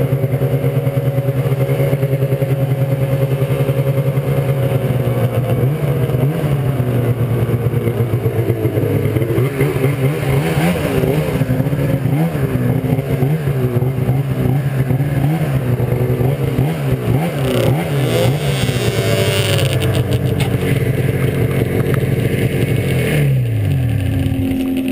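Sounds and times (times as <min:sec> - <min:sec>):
snowmobile engine running: 0:00.0 - 0:24.9.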